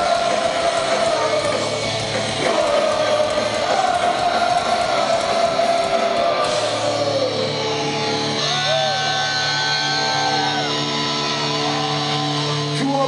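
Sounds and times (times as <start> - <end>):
voices singing along: 0.0 - 11.0
punk band playing loud: 0.0 - 13.0.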